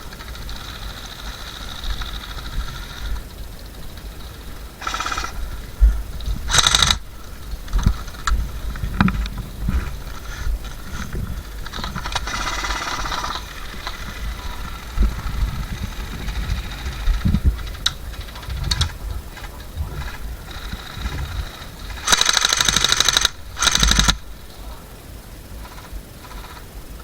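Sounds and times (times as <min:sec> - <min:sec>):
airsoft rifle full auto bursts: 0:00.0 - 0:08.8, 0:10.1 - 0:24.6, 0:25.6 - 0:26.7.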